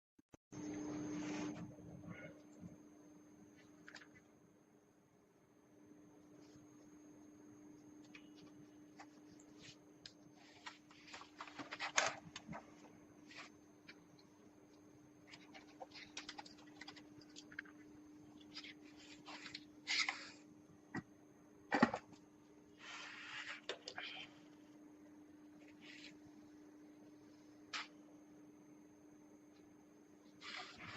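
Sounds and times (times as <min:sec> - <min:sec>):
faint steady hum: 0:00.6 - 0:30.9.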